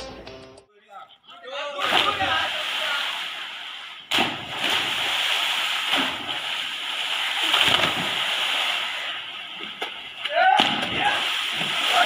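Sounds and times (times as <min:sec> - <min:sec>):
water splashing: 0:01.8 - 0:12.0.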